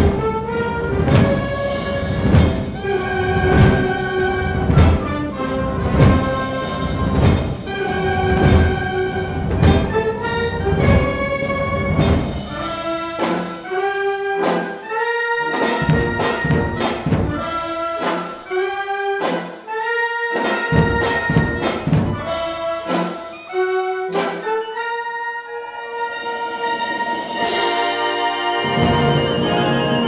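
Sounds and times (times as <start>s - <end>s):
percussion strikes: 0.0s - 24.7s, 26.3s - 30.0s
brass and woodwind chords: 0.0s - 30.0s.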